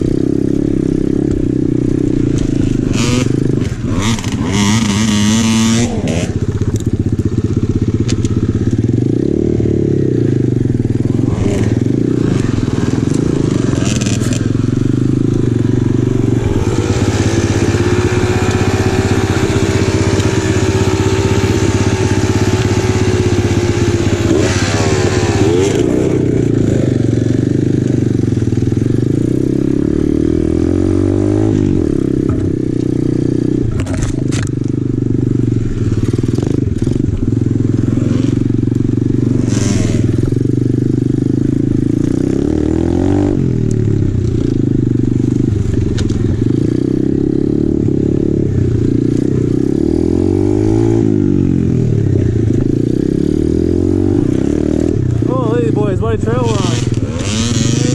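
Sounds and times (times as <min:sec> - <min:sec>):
motorbike engine revving: 0:00.0 - 0:57.9.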